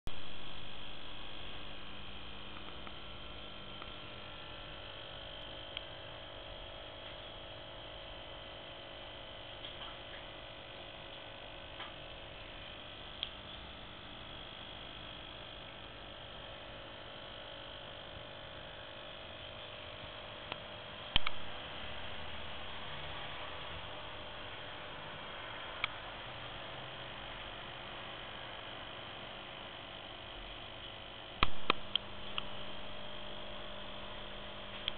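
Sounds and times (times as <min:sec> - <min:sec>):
aquarium hum and hiss: 0:00.1 - 0:34.9.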